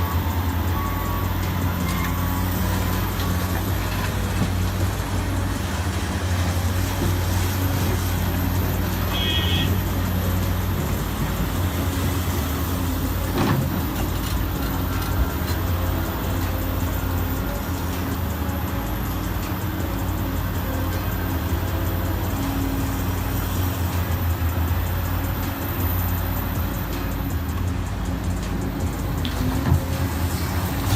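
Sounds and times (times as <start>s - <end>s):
heavy truck engine droning: 0.0s - 30.9s
road and mechanical noise: 0.0s - 30.9s.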